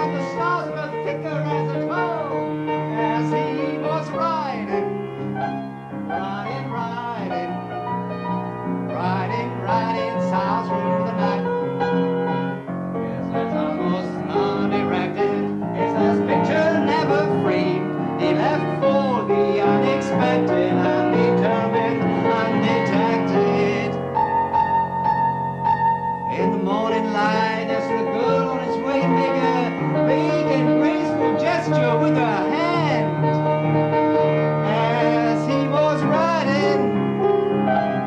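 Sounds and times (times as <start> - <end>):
piano chords with wavering melody: 0.0 - 38.0.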